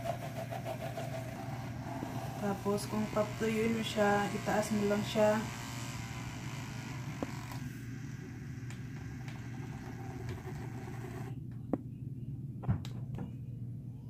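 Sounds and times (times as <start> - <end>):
small motor whirring: 0.0 - 11.4.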